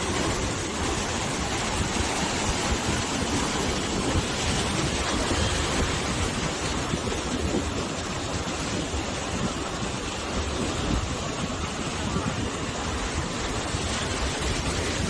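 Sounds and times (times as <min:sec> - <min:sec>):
sea waves surging on shore: 0:00.0 - 0:15.0
wind blowing: 0:00.0 - 0:15.0.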